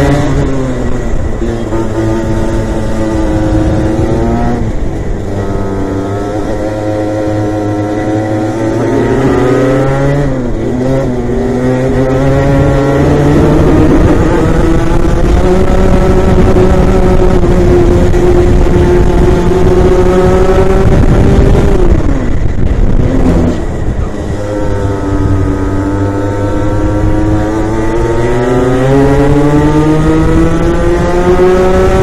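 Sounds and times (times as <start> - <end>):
other kart engines: 0.0 - 32.0
racing kart engine revving: 0.0 - 32.0.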